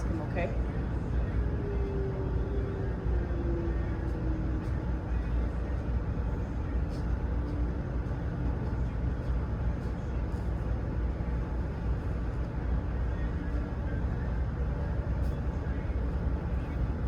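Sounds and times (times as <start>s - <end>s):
vehicle engines idling: 0.0s - 17.0s.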